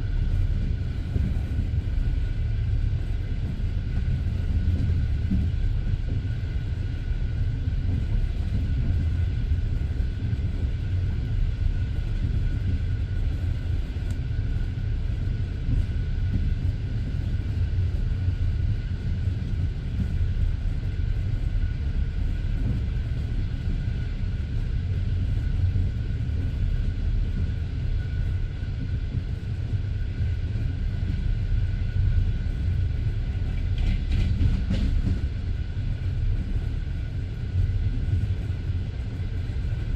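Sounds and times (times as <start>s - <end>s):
faint steady whine: 0.0s - 39.9s
train wheels rumbling on rails: 0.0s - 39.9s.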